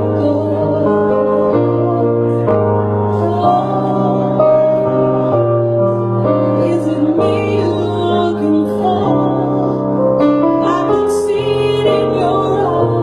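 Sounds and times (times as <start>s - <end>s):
electric keyboard chords: 0.0s - 13.0s.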